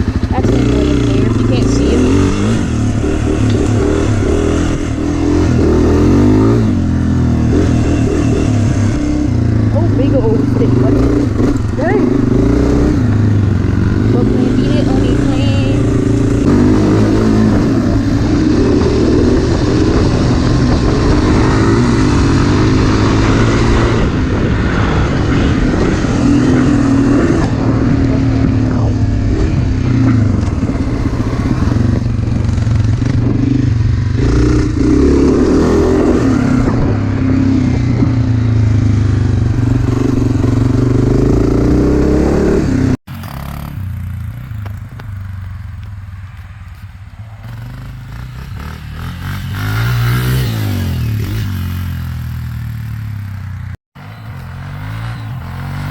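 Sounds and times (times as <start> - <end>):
dirt bike engine revving: 0.0 - 45.6, 47.4 - 55.9.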